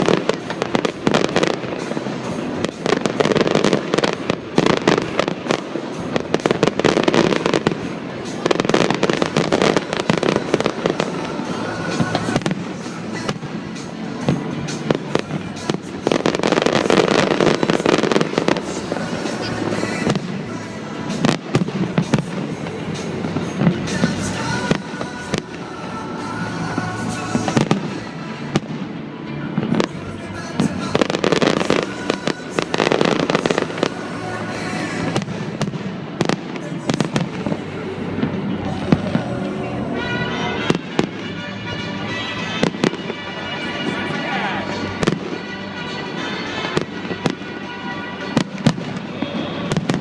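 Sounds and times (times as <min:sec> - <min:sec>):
fireworks bangs and crackles: 0:00.0 - 0:50.0
music over loudspeakers: 0:00.0 - 0:50.0.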